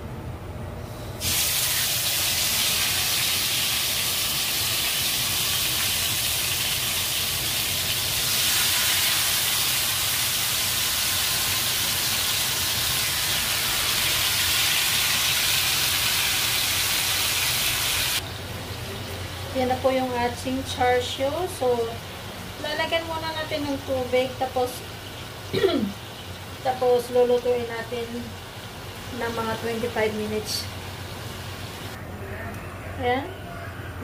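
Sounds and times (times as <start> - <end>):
meat sizzling in a hot wok: 1.2 - 18.8, 21.7 - 32.0.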